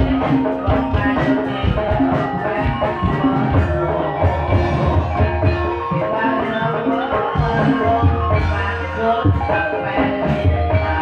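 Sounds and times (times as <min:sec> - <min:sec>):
drum strokes: 0:00.0 - 0:11.0.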